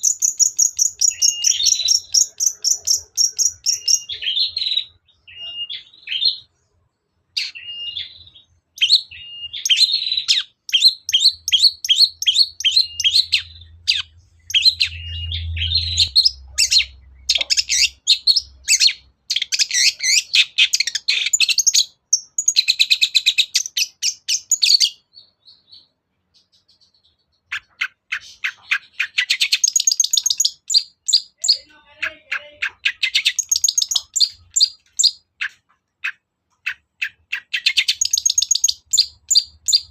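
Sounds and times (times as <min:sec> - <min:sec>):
bird chattering and trilling: 0:00.0 - 0:06.5, 0:07.4 - 0:39.9.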